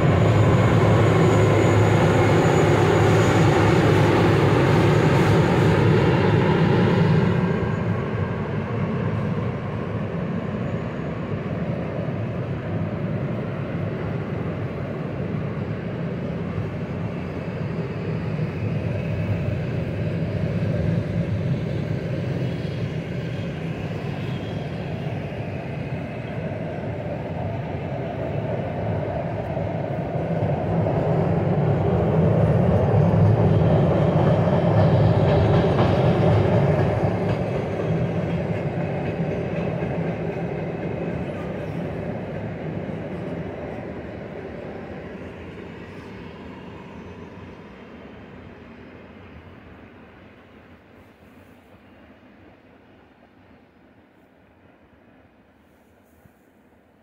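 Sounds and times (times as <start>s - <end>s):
freight train wheels rumbling: 0.0s - 55.2s.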